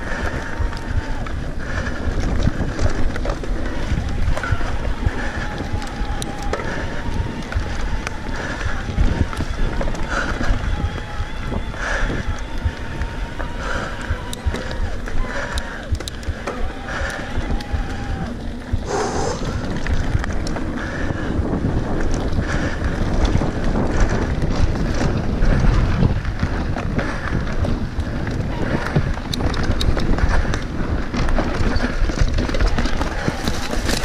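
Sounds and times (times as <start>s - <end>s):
bike rattling over bumps: 0.0s - 34.0s
bike tyres on dirt: 0.0s - 34.0s
wind rumble on microphone: 0.0s - 34.0s.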